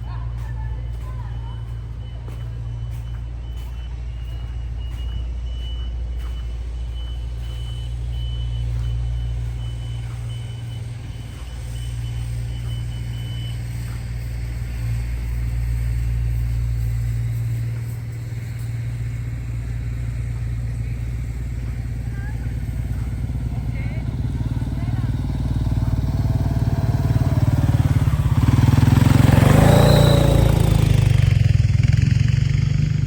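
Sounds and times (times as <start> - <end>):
heavy vehicle engine rumbling: 0.0 - 33.0
reversing alarm beeping: 0.0 - 33.0.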